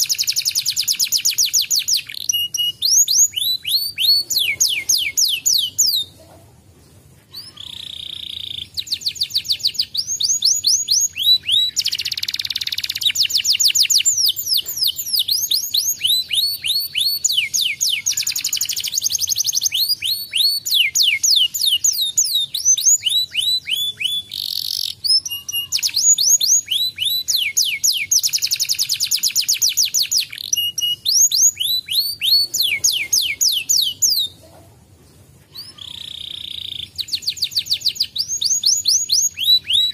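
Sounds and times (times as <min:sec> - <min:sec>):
canary singing trills: 0:00.0 - 0:06.3, 0:07.3 - 0:34.6, 0:35.4 - 0:39.9.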